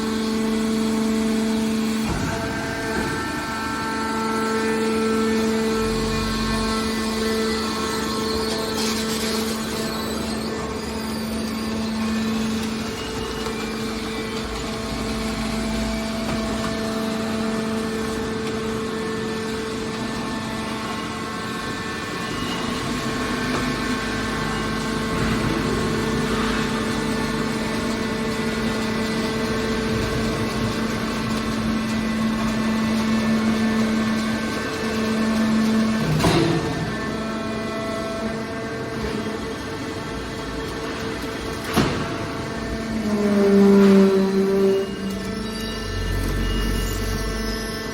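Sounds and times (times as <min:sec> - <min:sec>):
hydraulic unit humming: 0:00.0 - 0:47.9
mechanical background noise: 0:00.0 - 0:47.9.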